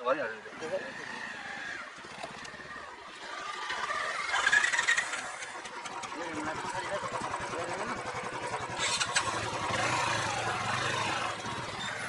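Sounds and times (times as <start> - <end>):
motorcycle engine running: 0.6 - 12.0.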